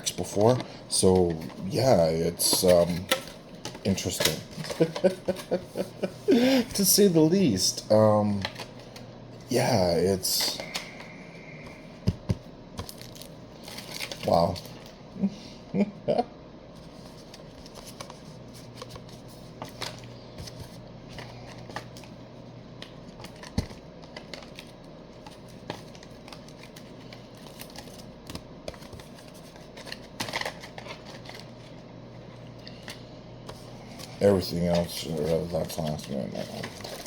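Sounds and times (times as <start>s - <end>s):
paper and cards rustling: 0.1s - 14.9s, 16.8s - 22.2s, 22.8s - 37.0s.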